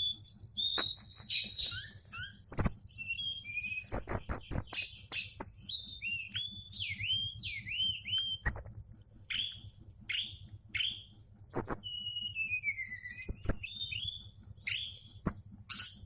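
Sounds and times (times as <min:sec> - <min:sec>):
down-swooping whistles: 0:00.0 - 0:05.0, 0:05.6 - 0:16.0
songbird singing: 0:00.0 - 0:16.0.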